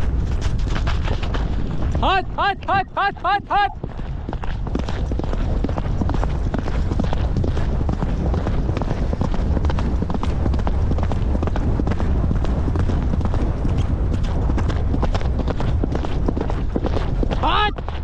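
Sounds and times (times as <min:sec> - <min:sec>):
horse galloping hoofbeats: 0:00.0 - 0:18.0
wind buffeting microphone: 0:00.0 - 0:18.0.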